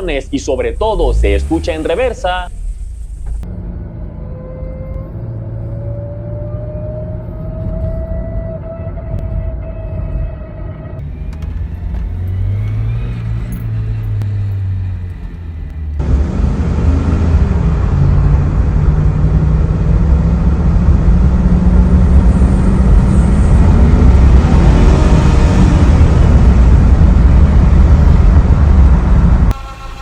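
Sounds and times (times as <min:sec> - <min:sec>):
car engine idling and revving: 0:00.0 - 0:29.9
high-pitched transmission whine: 0:00.0 - 0:30.0.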